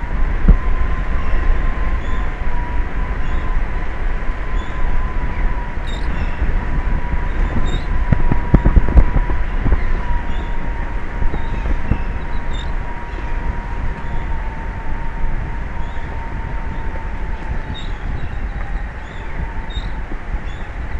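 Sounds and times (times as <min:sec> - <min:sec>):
steady high-pitched whine: 0:00.0 - 0:20.9
wind rumbling on microphone: 0:00.0 - 0:20.9.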